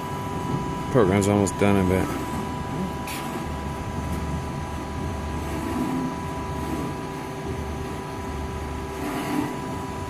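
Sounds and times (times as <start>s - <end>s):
machine hum with high whine: 0.0s - 10.0s.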